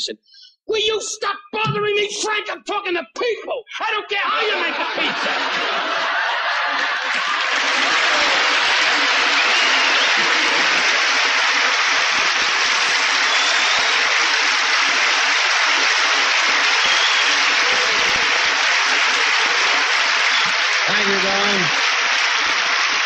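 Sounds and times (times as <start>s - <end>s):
audience applauding: 3.8s - 23.0s
audience laughter: 4.4s - 23.0s.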